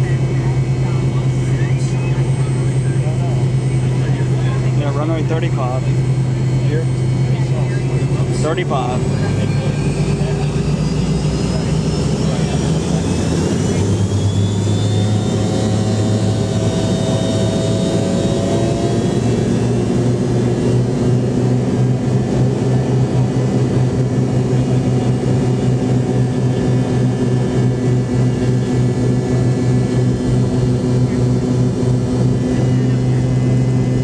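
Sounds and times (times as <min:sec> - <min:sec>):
jet engine drone: 0:00.0 - 0:34.0.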